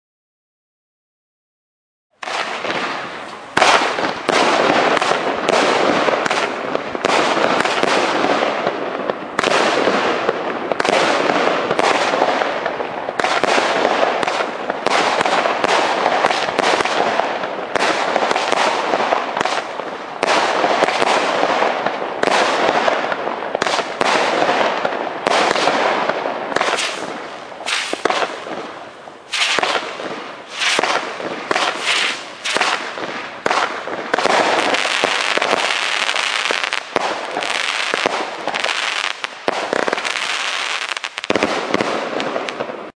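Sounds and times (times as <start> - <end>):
fireworks cake firing: 2.2 - 42.9.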